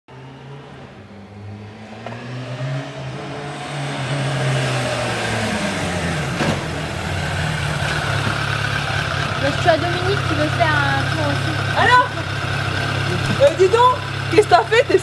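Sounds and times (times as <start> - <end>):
motorcycle engine approaching: 0.1 - 15.0.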